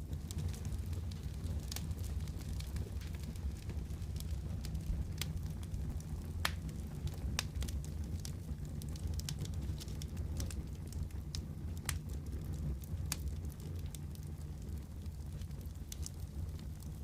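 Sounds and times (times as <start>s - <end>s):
low rumble of fire: 0.0s - 17.0s
wood fire popping and snapping: 0.0s - 17.0s.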